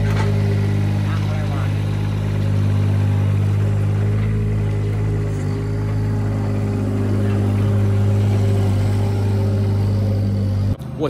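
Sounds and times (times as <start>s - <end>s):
loader engine humming: 0.0s - 11.0s.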